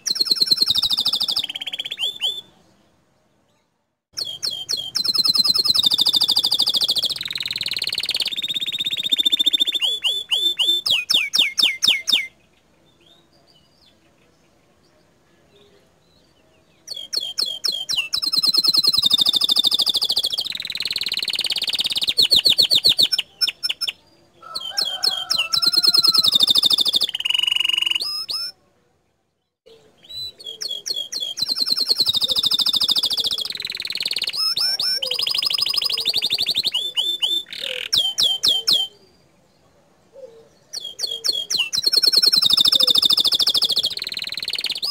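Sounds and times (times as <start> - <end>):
canary singing fast trills: 0.0 - 3.0, 4.1 - 14.5, 16.2 - 28.6, 29.4 - 39.3, 40.2 - 44.9.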